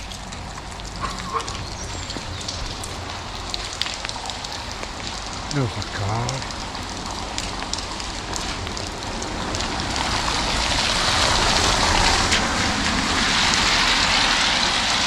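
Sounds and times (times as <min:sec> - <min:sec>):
car tyres hissing on wet road: 0:00.0 - 0:15.0
raindrop ticks: 0:00.0 - 0:15.0
steady rain: 0:00.0 - 0:15.0.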